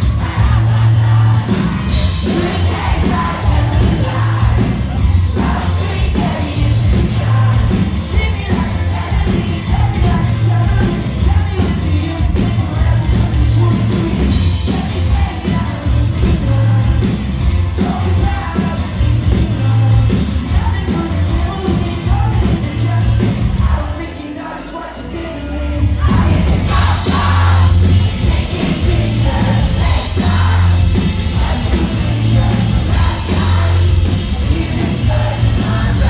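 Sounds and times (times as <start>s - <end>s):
live pop-rock band: 0.0s - 36.0s.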